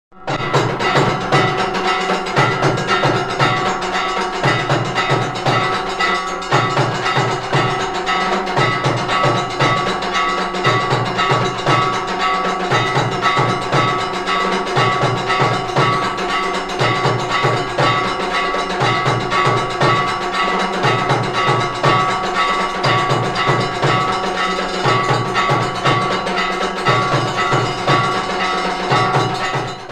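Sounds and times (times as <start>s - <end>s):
bells ringing: 0.1s - 29.9s
repeating drum rhythm: 0.1s - 29.9s.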